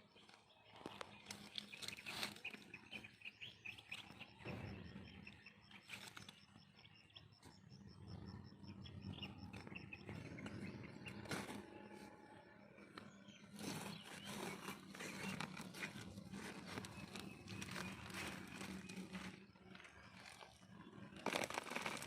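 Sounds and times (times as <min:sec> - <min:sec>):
birds chirping: 0:00.0 - 0:21.2.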